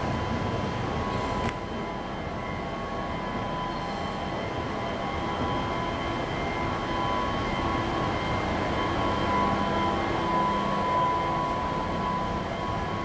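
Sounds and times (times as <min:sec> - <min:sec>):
high whine: 0:00.0 - 0:13.0
train coach rumble: 0:00.0 - 0:13.0.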